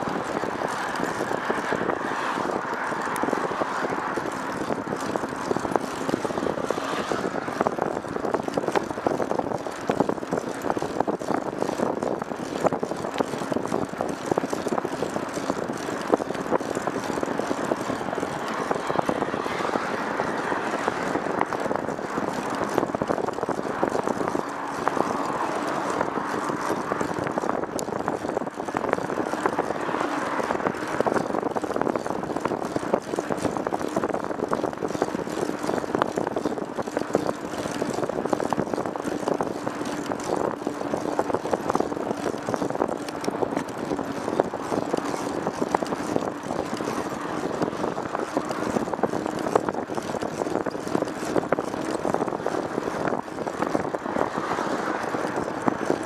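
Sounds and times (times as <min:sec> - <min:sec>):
road and wind noise: 0:00.0 - 0:56.0
vehicle engine drone: 0:00.0 - 0:56.0.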